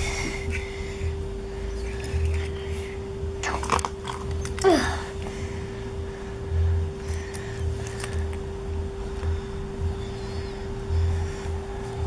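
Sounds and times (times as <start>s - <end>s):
music with low beat: 0.0s - 12.0s.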